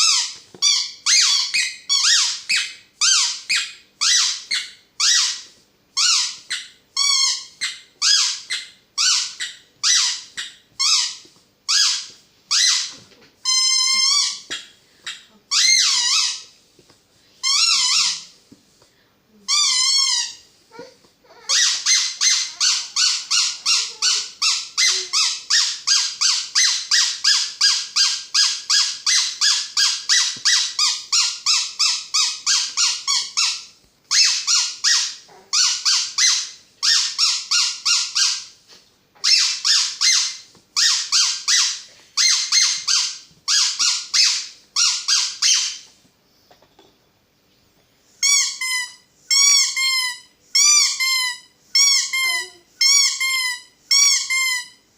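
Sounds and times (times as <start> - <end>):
squeaky toy squeaking: 0.0 - 16.5, 17.4 - 18.3, 19.5 - 38.5, 39.2 - 45.8, 48.2 - 54.8.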